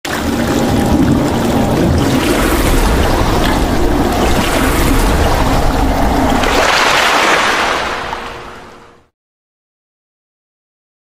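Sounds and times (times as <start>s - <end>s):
rushing splashing water: 0.0s - 9.0s.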